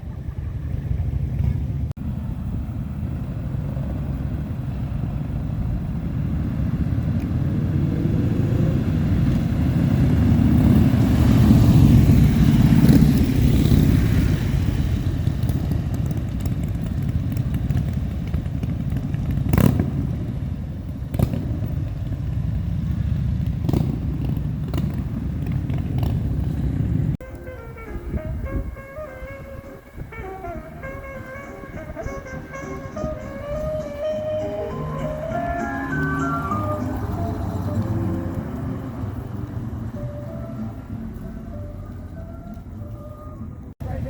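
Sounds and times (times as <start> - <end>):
motorcycle engines rumbling: 0.0 - 44.0.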